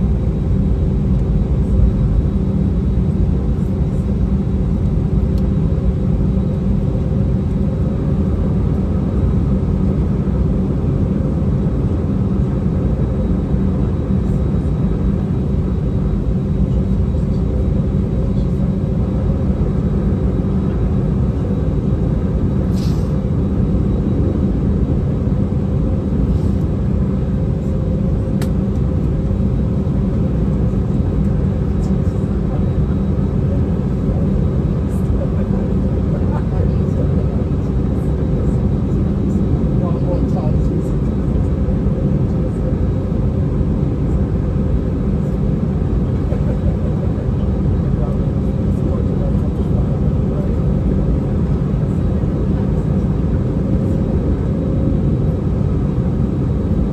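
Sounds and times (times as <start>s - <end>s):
jet engine cabin rumble: 0.0s - 56.9s.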